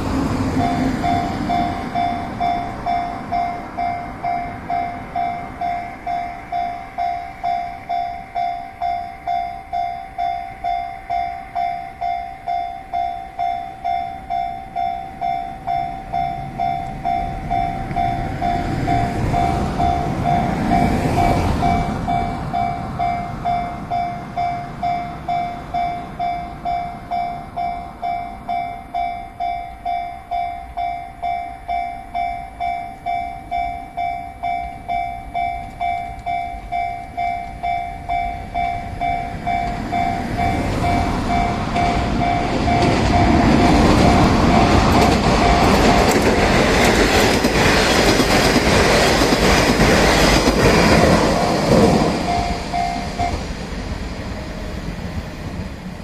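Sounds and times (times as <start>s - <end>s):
diesel railcar engine and wheels: 0.0s - 56.0s
level-crossing warning bell dinging: 0.0s - 56.0s.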